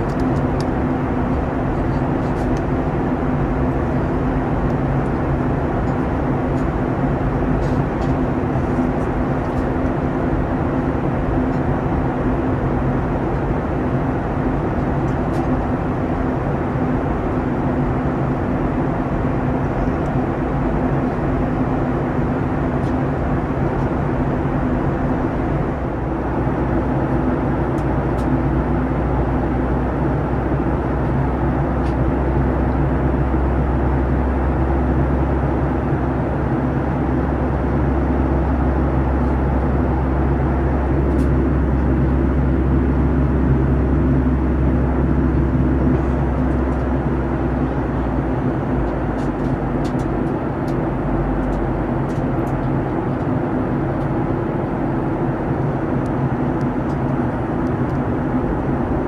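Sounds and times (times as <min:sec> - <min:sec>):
airplane cabin engine drone: 0:00.0 - 0:59.0.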